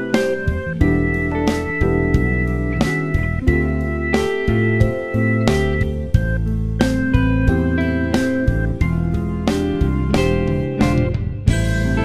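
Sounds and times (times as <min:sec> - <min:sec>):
bass line: 0:00.0 - 0:12.0
guitar strumming chords: 0:00.0 - 0:12.0.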